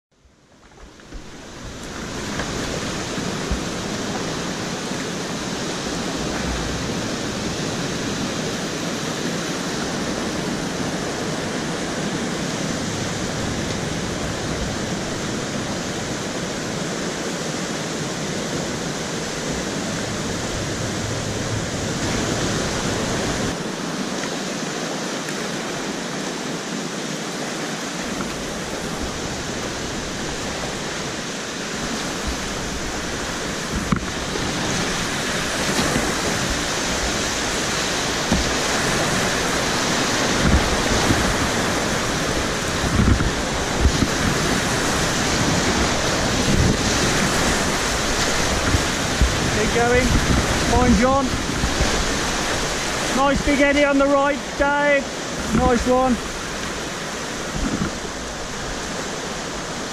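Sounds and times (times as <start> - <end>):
whitewater rapids rushing: 0.4 - 59.9.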